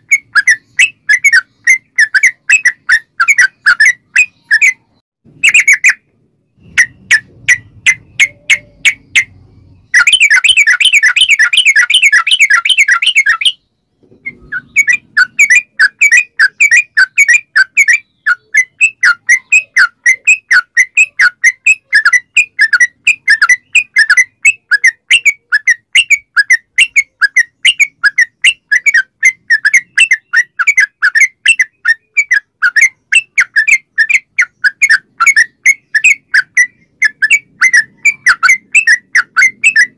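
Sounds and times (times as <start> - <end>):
bird singing whistled chirps: 0.0 - 39.9.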